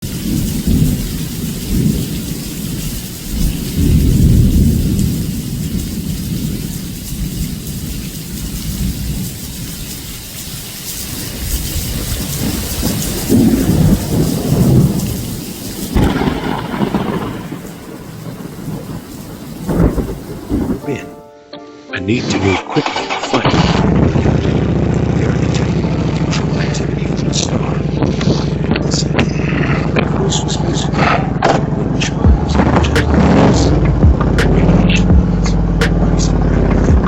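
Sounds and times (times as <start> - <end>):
rolling thunder: 0.0 - 21.1, 23.5 - 37.0
heavy rain hissing: 0.0 - 21.2, 22.9 - 37.0.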